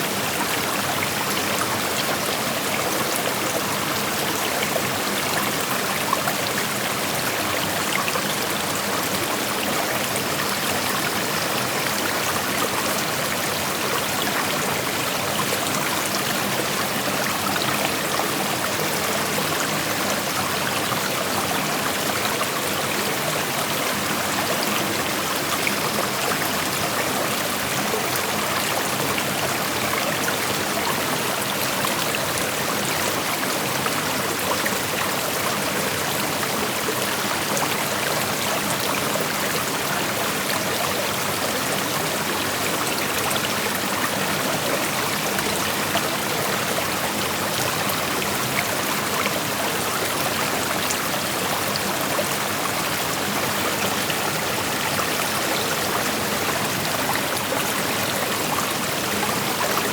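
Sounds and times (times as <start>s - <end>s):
creek flowing over rocks: 0.0s - 59.9s.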